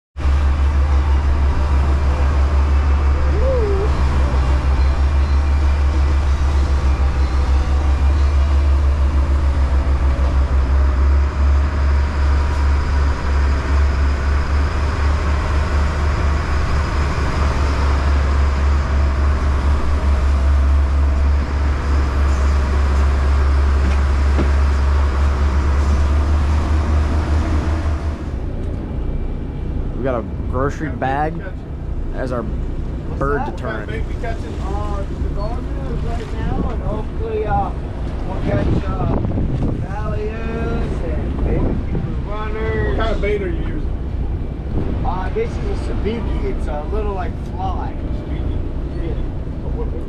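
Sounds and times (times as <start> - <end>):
boat engines droning: 0.2 - 50.0.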